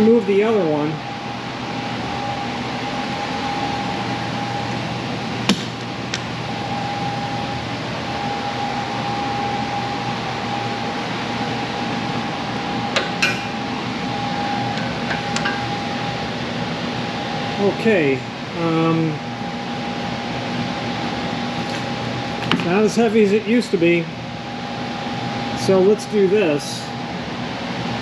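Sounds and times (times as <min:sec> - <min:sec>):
workshop machinery whirring: 0:00.0 - 0:28.0.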